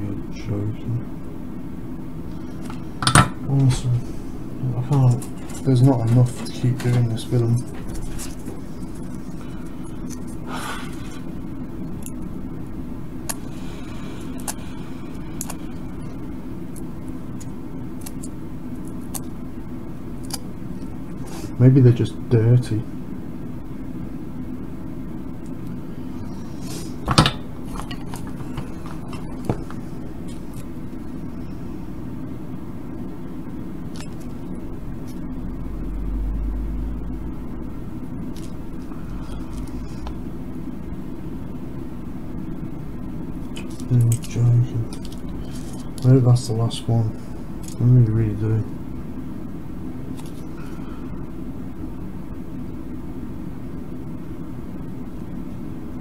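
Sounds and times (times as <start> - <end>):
low rumbling background noise: 0.0 - 56.0
steady low hum: 0.0 - 56.0.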